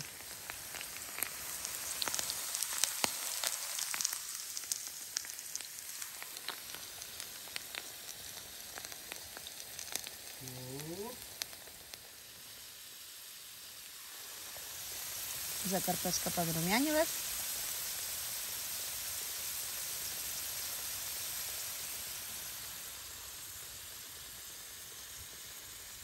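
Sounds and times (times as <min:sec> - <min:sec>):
potatoes frying in hot oil: 0:00.0 - 0:26.0.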